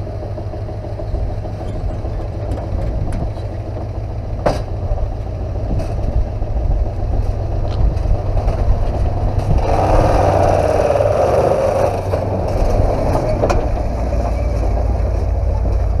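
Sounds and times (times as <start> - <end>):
pickup truck engine under load: 0.0 - 16.0.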